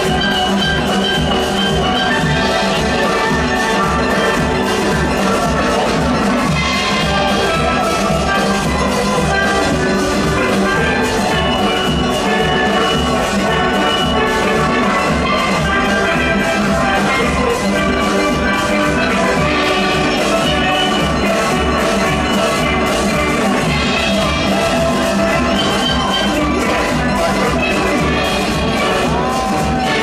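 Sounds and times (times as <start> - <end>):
drum kit and percussion beat: 0.0 - 30.0.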